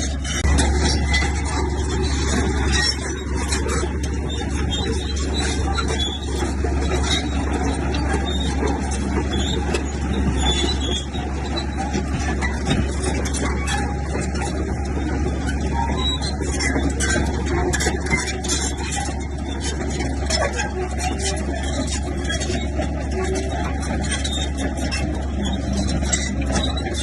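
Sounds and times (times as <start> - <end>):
diesel engine running: 0.0 - 27.0
metal track links clattering: 0.0 - 27.0.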